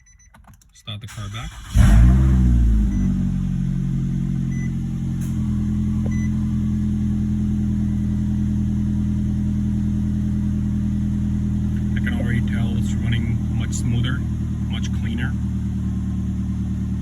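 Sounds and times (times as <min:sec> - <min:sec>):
car engine idling: 0:01.1 - 0:17.0.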